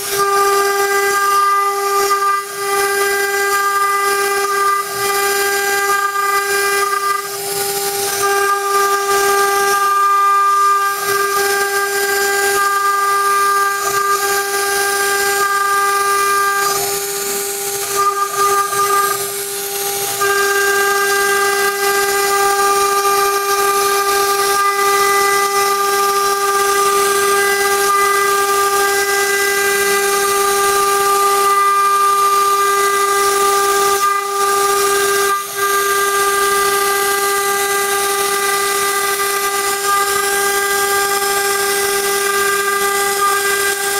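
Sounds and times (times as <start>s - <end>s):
bit cutting into board: 0.0s - 43.9s
router spindle whining: 0.0s - 43.9s.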